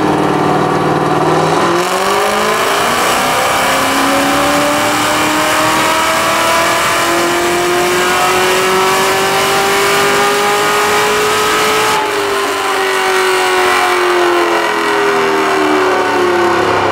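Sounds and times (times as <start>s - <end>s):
car engine at full throttle: 0.0s - 16.9s.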